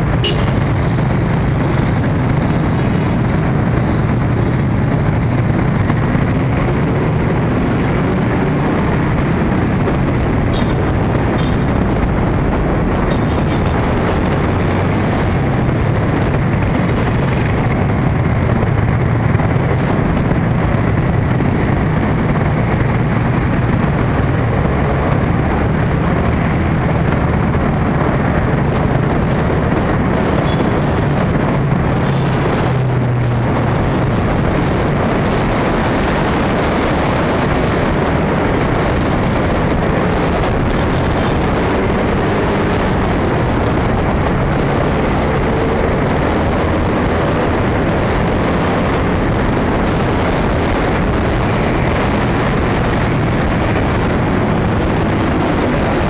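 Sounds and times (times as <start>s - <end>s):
road noise: 0.0s - 56.0s
wind rumble on microphone: 0.0s - 56.0s.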